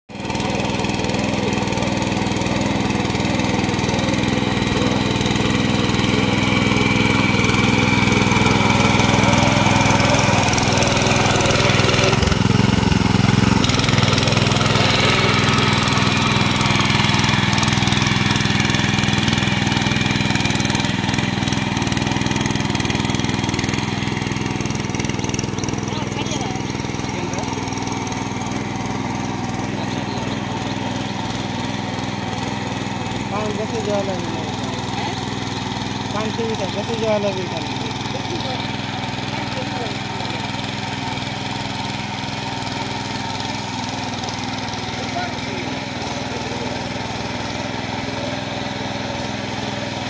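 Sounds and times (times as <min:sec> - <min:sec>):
small engine running under load: 0:00.1 - 0:50.0
tines churning through mud: 0:00.1 - 0:50.0.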